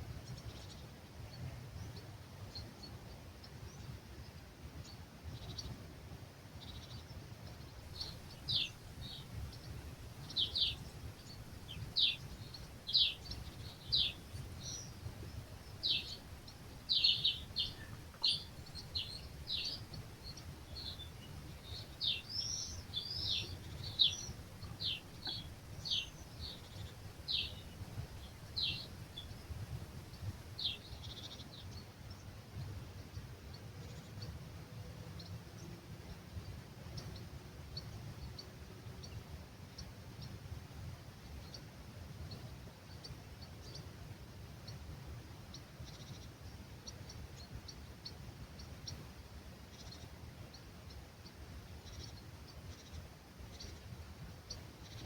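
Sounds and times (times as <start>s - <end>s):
low rumble of breeze: 0.0s - 55.0s
small songbirds chirping: 0.0s - 55.0s.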